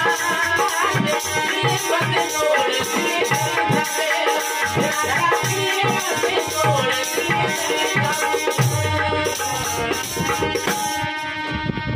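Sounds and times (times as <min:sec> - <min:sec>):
man singing: 0:00.0 - 0:11.6
dholak drum hand strokes: 0:00.0 - 0:11.9
harmonium chords: 0:00.0 - 0:11.9.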